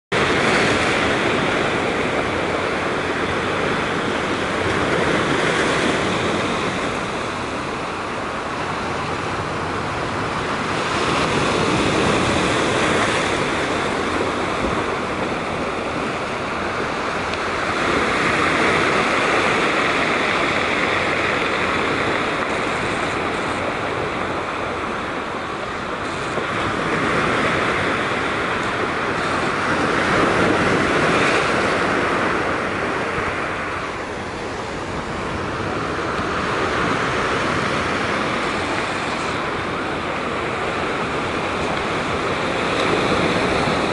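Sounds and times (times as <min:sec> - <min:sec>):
sea surf breaking over rocks: 0:00.1 - 0:43.9.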